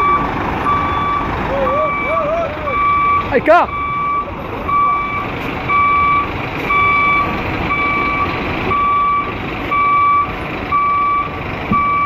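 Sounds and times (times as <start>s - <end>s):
diesel engine rumble: 0.0s - 12.0s
reversing alarm beeping: 0.0s - 12.0s.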